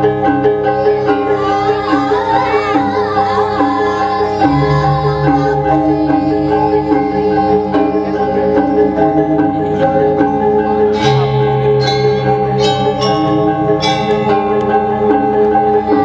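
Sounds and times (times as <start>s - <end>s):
gamelan metallophones ringing: 0.0s - 16.0s.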